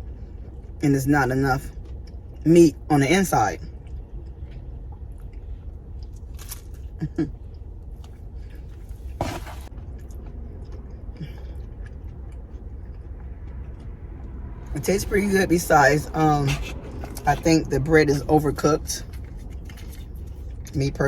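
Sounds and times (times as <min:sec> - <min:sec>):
steady low hum: 0:00.0 - 0:21.0
person chewing and crunching: 0:01.6 - 0:02.4, 0:03.6 - 0:15.7, 0:16.4 - 0:20.8.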